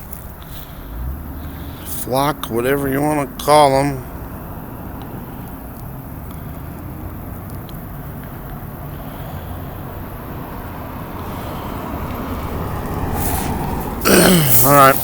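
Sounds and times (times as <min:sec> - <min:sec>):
traffic rumble: 0:00.0 - 0:15.0
vehicle approaching: 0:00.0 - 0:15.0.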